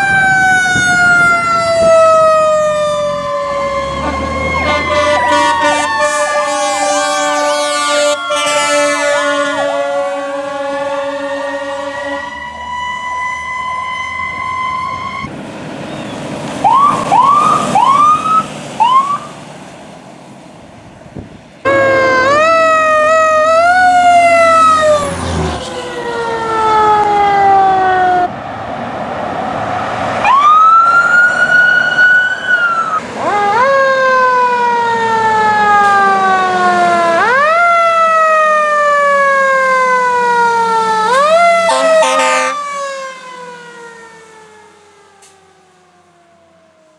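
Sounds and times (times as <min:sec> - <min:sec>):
fire truck sirens: 0:00.0 - 0:46.9.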